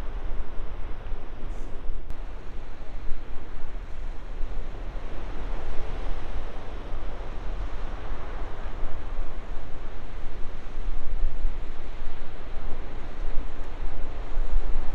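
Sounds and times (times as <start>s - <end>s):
wind rumbling on microphone: 0.0s - 14.9s.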